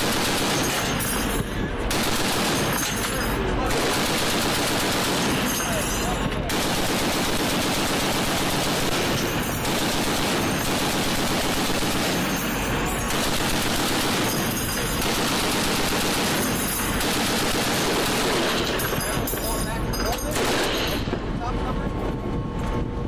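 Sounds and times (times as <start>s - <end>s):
heavy machine gun bursts: 0.0s - 19.6s, 20.2s - 21.3s.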